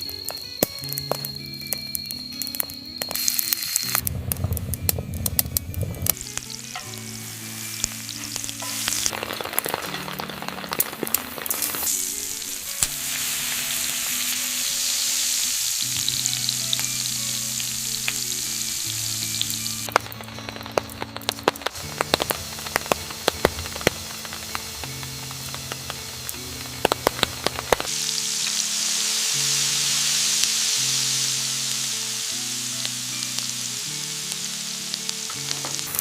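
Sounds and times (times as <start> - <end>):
food sizzling in hot fat: 0.0 - 36.0
soft background music: 0.0 - 36.0.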